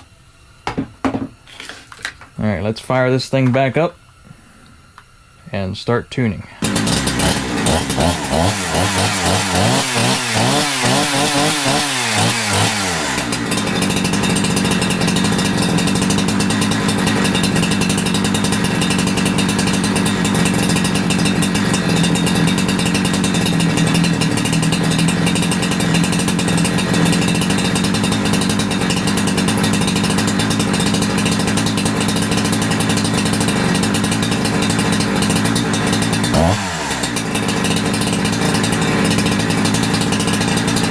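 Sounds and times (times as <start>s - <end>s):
chainsaw engine running: 6.5s - 40.9s.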